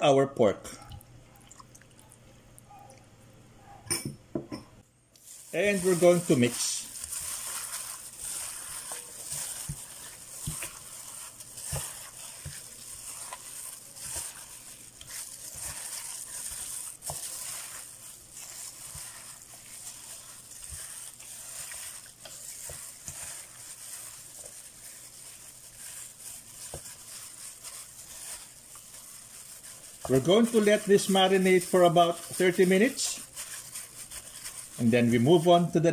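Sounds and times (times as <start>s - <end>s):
wet squishing of meat: 0.8s - 2.6s, 5.2s - 35.4s.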